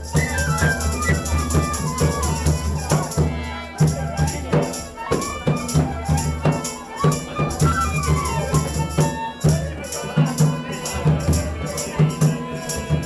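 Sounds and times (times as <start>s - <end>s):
bamboo flute: 0.0s - 13.0s
hand drum beat: 0.0s - 13.0s
harmonium: 0.0s - 13.0s
jingling percussion: 0.0s - 13.0s.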